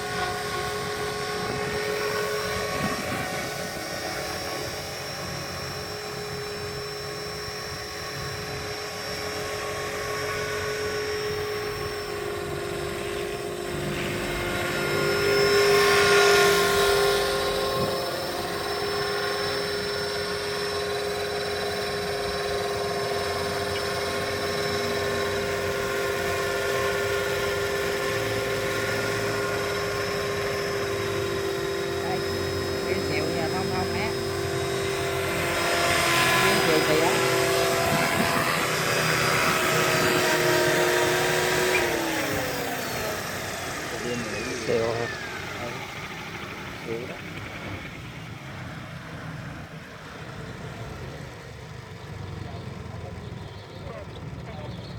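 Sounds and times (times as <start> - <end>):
rc helicopter motor whine: 0.0 - 54.9.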